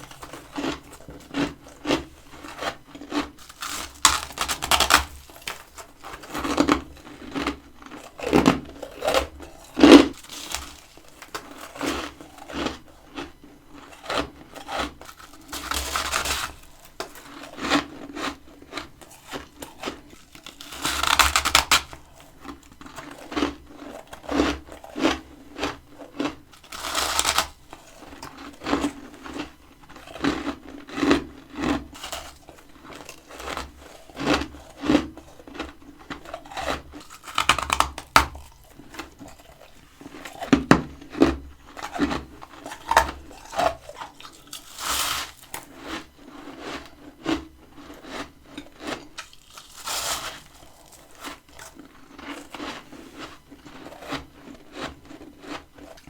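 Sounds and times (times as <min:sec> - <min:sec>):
chewing crunchy frost: 0:00.0 - 0:56.0.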